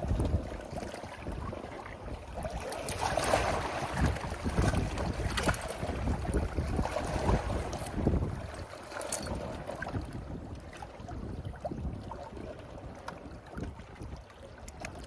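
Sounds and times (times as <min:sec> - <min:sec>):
wind gusting against microphone: 0:00.0 - 0:12.8.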